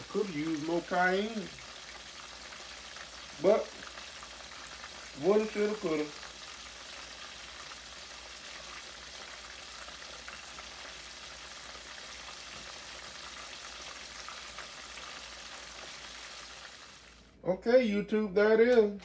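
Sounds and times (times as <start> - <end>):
fish deep-frying in hot oil: 0.0 - 17.4.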